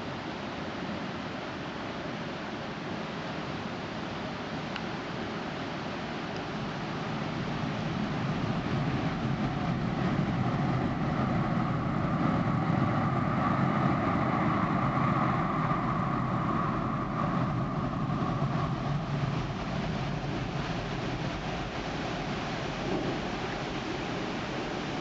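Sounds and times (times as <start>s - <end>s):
wind and water rushing: 0.0s - 25.0s.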